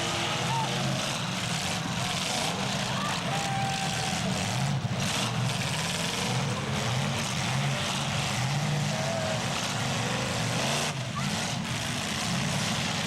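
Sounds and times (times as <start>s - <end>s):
car engines running hard: 0.0s - 13.0s.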